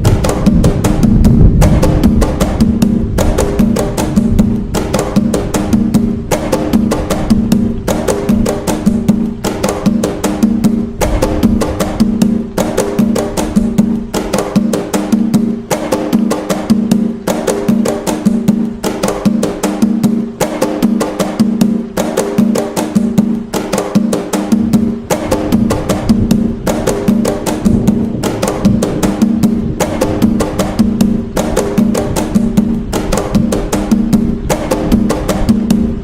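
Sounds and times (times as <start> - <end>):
hand drums playing fast rhythm: 0.0 - 36.0.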